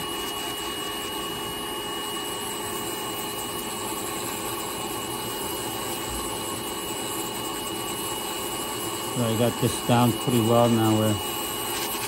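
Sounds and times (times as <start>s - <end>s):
electric drill grinding skin: 0.0s - 12.0s.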